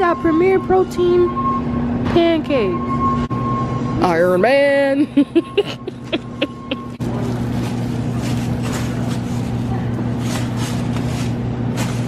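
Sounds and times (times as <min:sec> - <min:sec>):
store background hum and hiss: 0:00.0 - 0:12.0.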